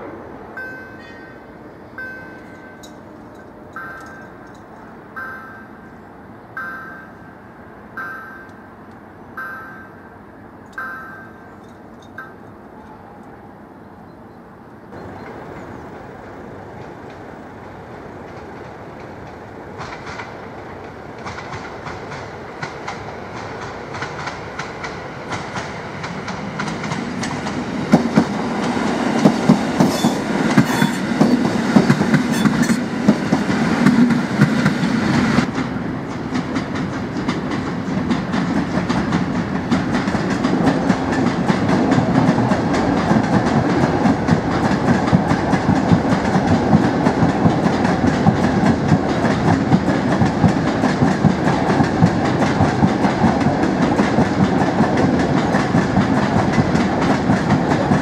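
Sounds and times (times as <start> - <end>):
electric train wheels clattering: 0.0 - 13.4, 15.0 - 58.0
freight train rumbling past: 0.0 - 58.0.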